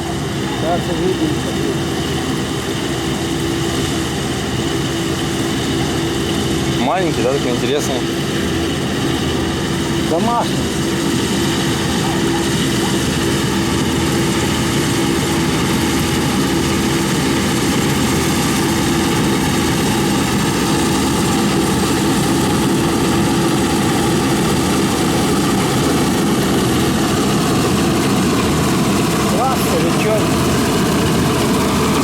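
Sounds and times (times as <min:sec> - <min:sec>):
combine harvester droning: 0:00.0 - 0:32.0.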